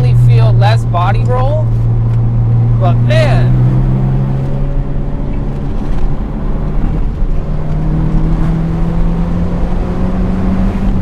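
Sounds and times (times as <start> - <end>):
car engine pulling hard: 0.0 - 11.0
low road rumble: 0.0 - 11.0.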